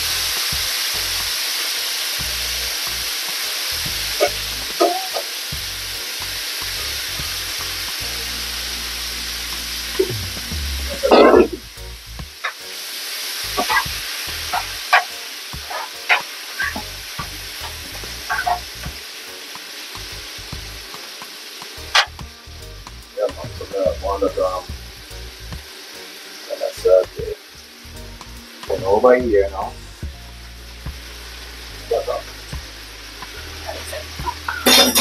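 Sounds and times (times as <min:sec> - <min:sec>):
meat sizzling in a frying pan: 0:00.0 - 0:10.2, 0:11.0 - 0:35.0.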